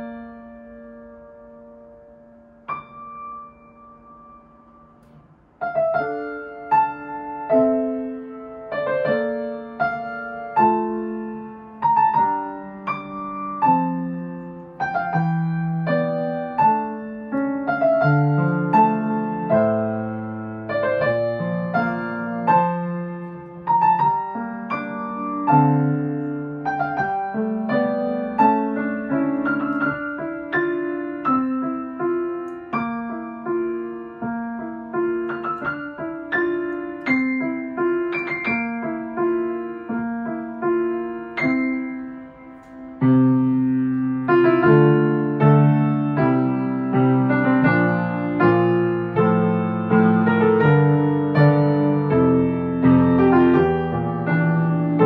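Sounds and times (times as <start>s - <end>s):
piano playing: 0.0s - 55.0s.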